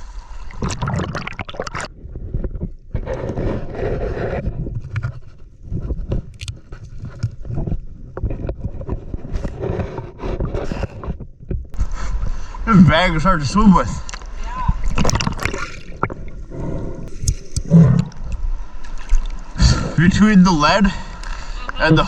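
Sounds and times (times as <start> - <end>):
water splashing and sloshing: 0.0 - 12.5, 13.8 - 19.6
water rumble against microphone: 0.0 - 12.6, 13.4 - 22.0.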